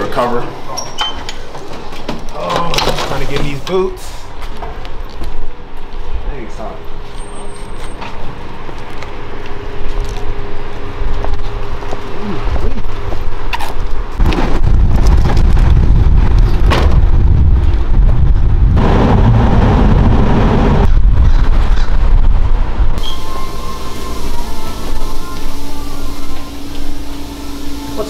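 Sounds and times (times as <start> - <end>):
traffic rumble: 0.0 - 28.0.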